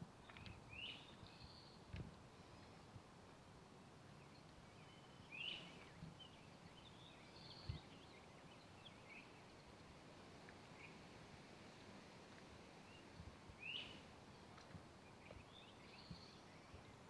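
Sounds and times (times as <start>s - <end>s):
faint woodland birdsong: 0.0s - 17.0s.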